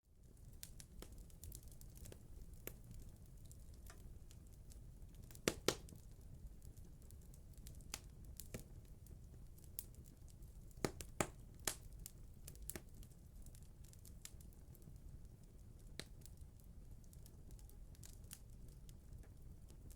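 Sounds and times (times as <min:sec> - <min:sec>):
low rumble of burning: 0:00.0 - 0:19.9
wood fire crackling: 0:00.2 - 0:19.9.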